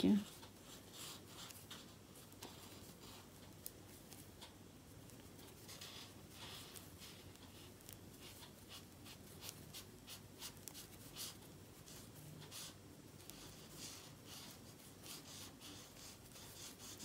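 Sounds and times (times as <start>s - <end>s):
crochet hook scratching thread: 0.0s - 4.4s, 5.0s - 17.0s.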